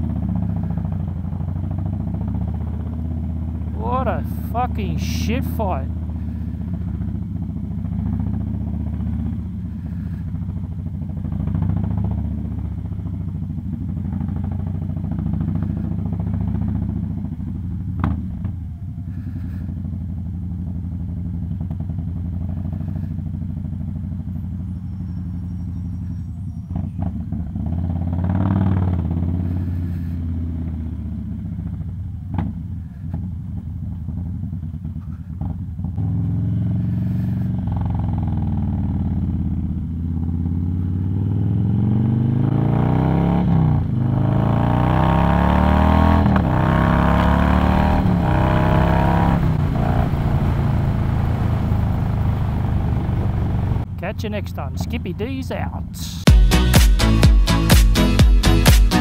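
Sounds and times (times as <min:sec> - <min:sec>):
motorcycle engine rumble: 0:00.0 - 0:59.0.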